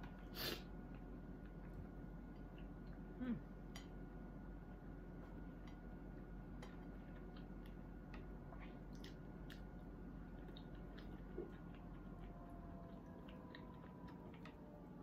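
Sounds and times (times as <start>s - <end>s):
low hum: 0.0s - 15.0s
person chewing food: 0.0s - 15.0s.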